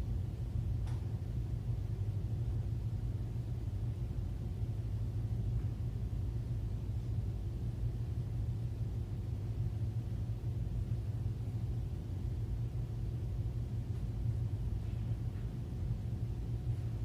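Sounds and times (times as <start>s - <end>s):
low room tone hum: 0.0s - 17.0s.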